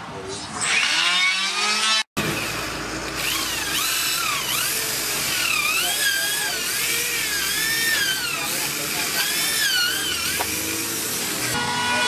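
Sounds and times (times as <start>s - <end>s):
cordless drill motor whine: 0.6s - 11.5s.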